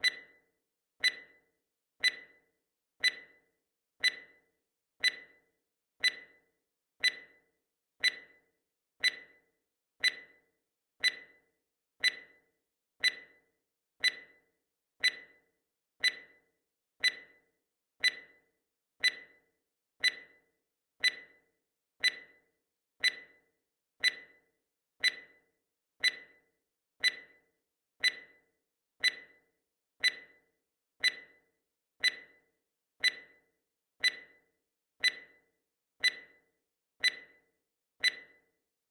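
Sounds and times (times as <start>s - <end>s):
ticking timer with ring: 0.0s - 38.7s.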